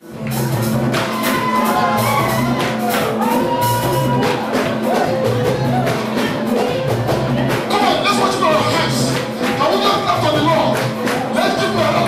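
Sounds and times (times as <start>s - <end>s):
bass: 0.0s - 12.0s
drums: 0.0s - 12.0s
keyboard: 0.0s - 12.0s.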